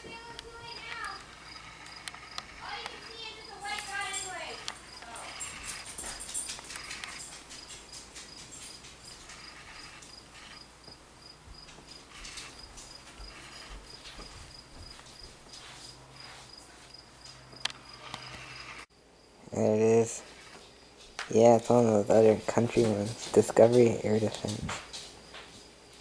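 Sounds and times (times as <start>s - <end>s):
cricket chirping: 0.0s - 21.3s.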